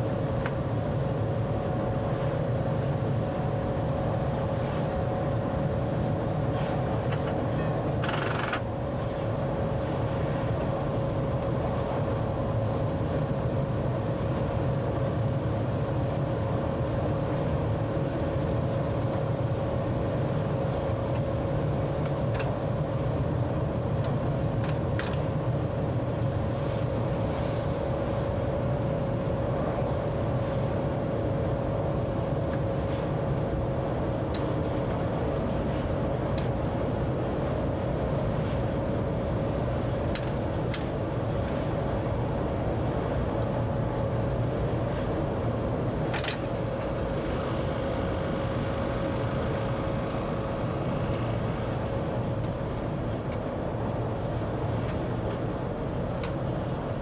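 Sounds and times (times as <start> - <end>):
electric train rumble and whine: 0.0 - 57.0.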